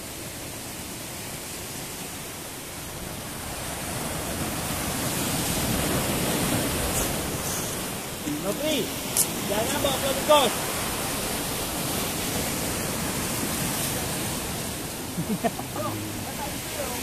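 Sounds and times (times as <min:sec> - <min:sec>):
sea surf breaking over rocks: 0:00.0 - 0:17.0.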